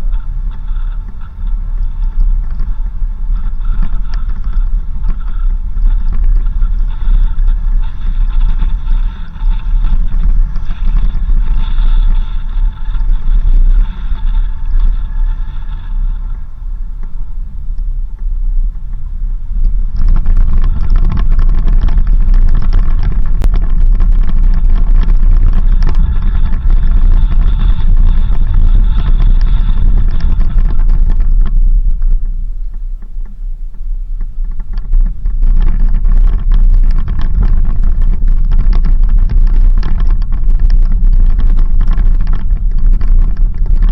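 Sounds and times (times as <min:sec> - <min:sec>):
higher multi-tone hum: 0:00.0 - 0:43.9
vehicle engine and road rumble: 0:00.0 - 0:43.9.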